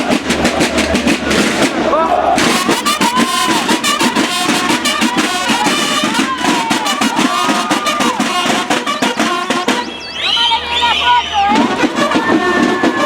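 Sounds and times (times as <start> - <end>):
fast dense drumming: 0.0 - 9.9, 11.1 - 13.0
parade band instruments: 0.0 - 13.0.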